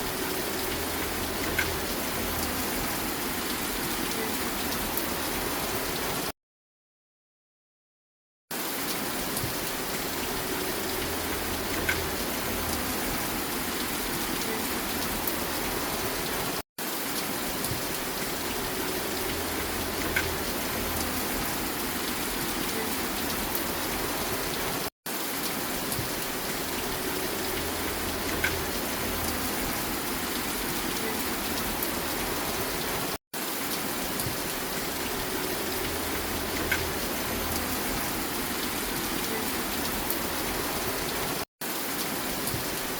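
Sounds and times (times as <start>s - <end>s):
steady rain falling: 0.0s - 6.3s, 8.5s - 42.9s.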